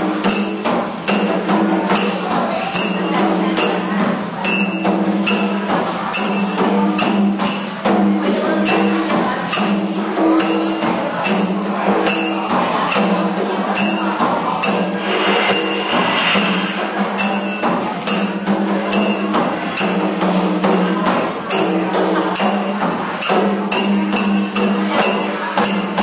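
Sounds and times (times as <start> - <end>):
percussive beat: 0.0 - 26.0.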